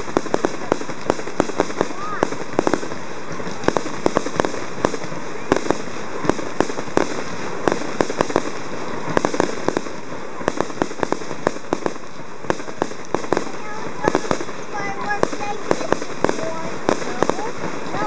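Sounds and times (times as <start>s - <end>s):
fireworks popping: 0.0s - 18.0s
steady hiss: 0.0s - 18.0s.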